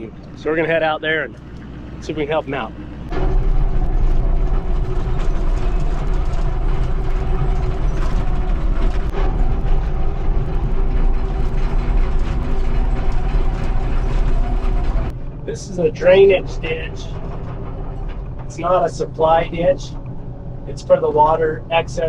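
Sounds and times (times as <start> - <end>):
excavator engine rumble: 0.0 - 22.0.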